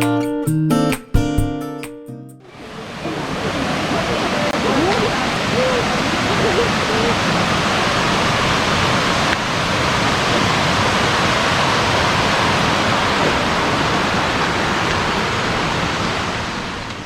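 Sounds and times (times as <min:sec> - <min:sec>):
flowing water rushing: 0:02.4 - 0:17.0.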